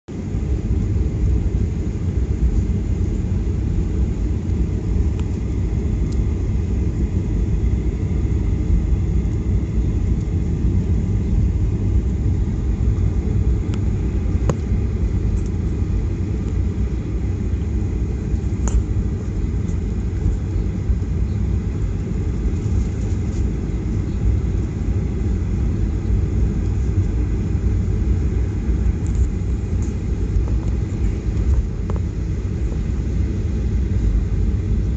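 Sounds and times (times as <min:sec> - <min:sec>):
airliner cabin rumble: 0:00.1 - 0:34.9.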